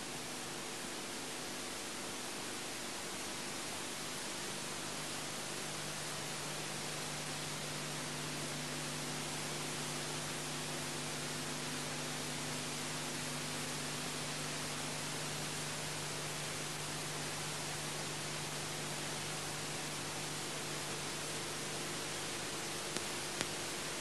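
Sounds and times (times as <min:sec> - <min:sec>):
film soundtrack hiss: 0:00.0 - 0:24.0.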